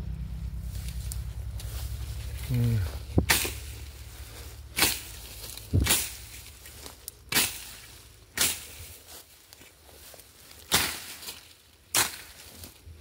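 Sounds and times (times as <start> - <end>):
grass rustling: 0.0 - 13.0
footsteps crunching through dry grass: 0.1 - 13.0.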